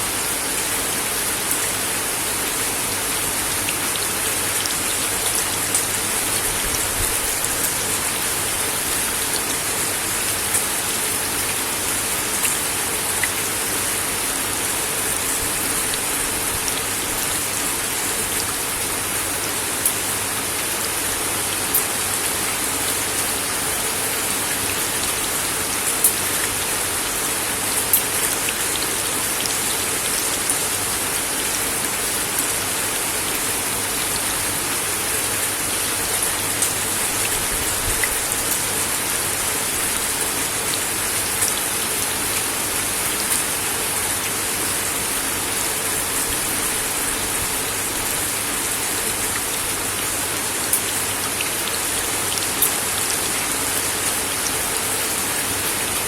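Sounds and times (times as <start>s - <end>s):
rain on a wooden deck: 0.0s - 56.0s.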